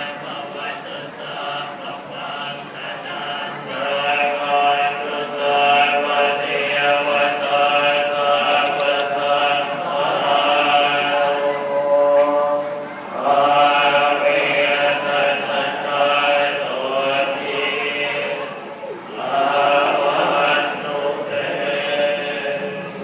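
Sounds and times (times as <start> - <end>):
monks chanting in unison: 0.0 - 23.0.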